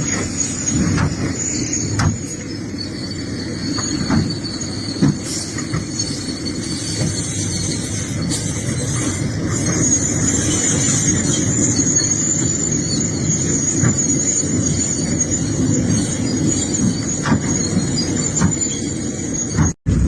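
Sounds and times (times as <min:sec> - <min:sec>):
excavator engine rumbling: 0:00.0 - 0:20.0
high-pitched metallic squeal: 0:00.0 - 0:20.0.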